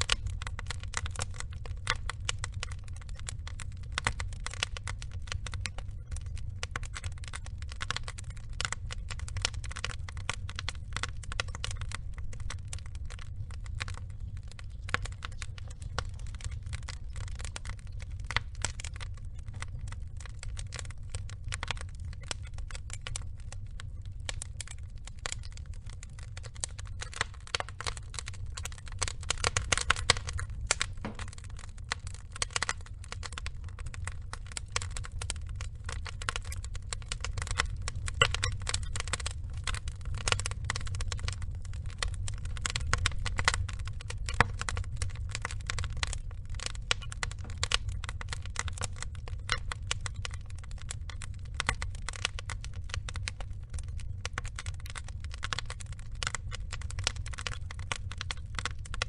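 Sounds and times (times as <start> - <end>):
burning logs crackling and popping: 0.0 - 59.0
low rumble of flames: 0.0 - 59.0.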